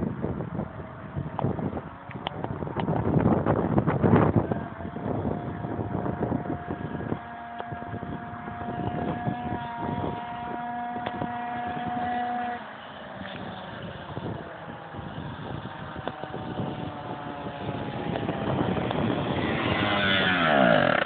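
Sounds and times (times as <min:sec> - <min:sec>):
two-stroke scooter engine at full throttle: 0:00.0 - 0:21.0
wind rushing over microphone: 0:00.0 - 0:21.0.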